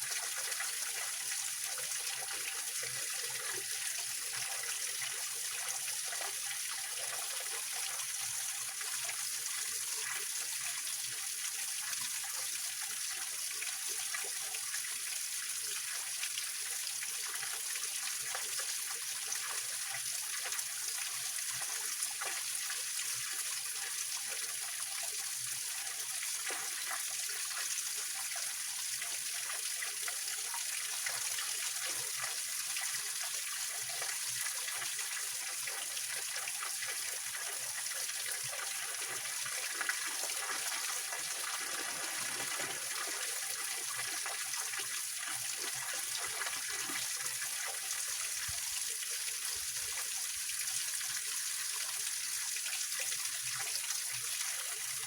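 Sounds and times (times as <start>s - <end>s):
small waterfall splashing over rocks: 0.0s - 55.0s.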